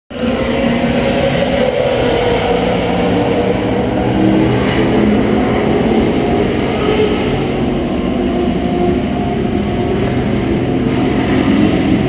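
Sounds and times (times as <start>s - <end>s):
low rumble: 0.1s - 12.0s
racing car engines droning: 0.1s - 12.0s.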